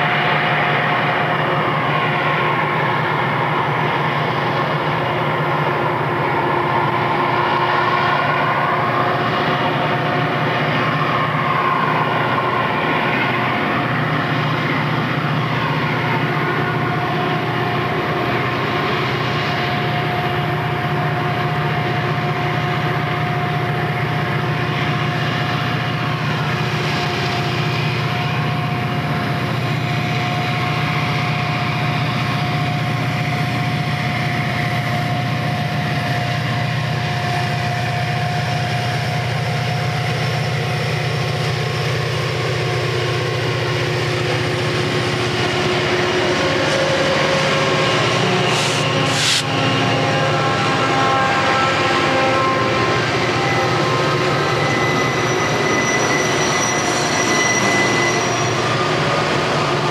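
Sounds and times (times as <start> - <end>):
diesel locomotives drone: 0.0 - 59.9
high whine: 0.0 - 59.9.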